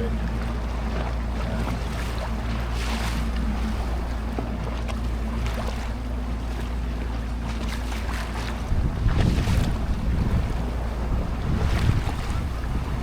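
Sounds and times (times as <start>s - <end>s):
motor boat engine droning: 0.0s - 13.0s
wind: 0.0s - 13.0s.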